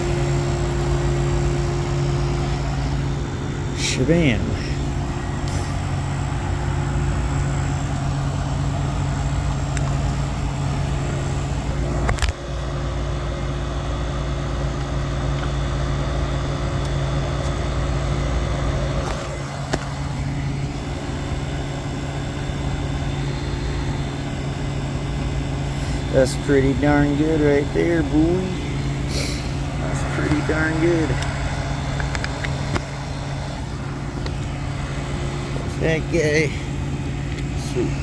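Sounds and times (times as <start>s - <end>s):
compressor and fan humming: 0.0s - 38.0s.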